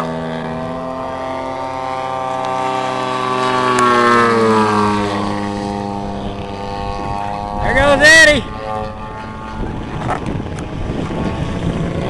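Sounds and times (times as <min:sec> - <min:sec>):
model plane engines and propellers: 0:00.0 - 0:12.0.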